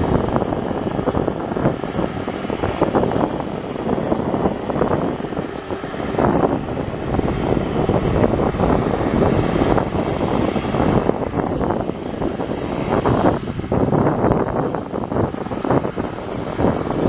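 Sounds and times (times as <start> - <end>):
jet engines rumbling at taxi power: 0.0 - 17.0.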